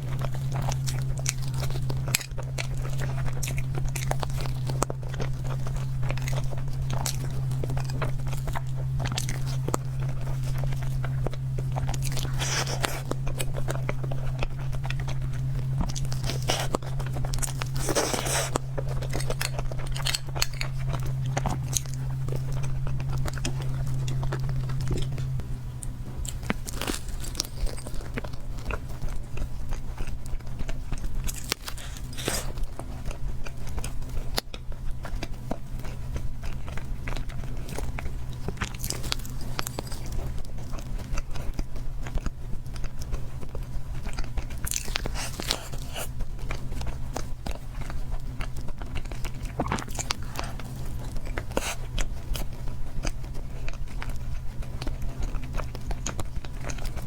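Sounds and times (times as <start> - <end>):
chewing and wet mouth sounds: 0.0 - 57.0
steady low hum: 0.0 - 57.0.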